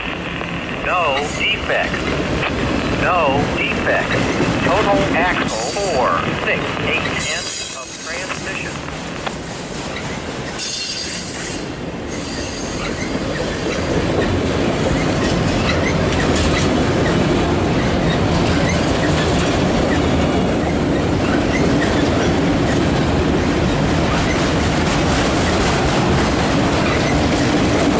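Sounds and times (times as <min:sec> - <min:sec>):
freight train rumble and rattle: 0:00.0 - 0:27.9.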